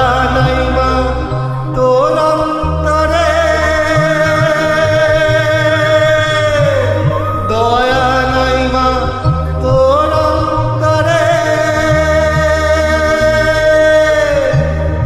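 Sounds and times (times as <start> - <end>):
backing track with low notes: 0.0 - 15.0
man singing: 0.0 - 15.0.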